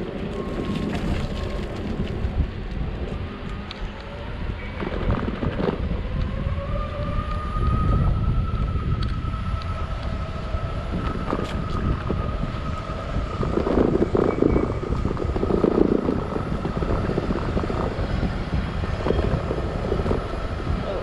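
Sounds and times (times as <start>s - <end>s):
electric skateboard motor whining: 0.0s - 20.8s
wind rumble on microphone: 0.0s - 21.0s.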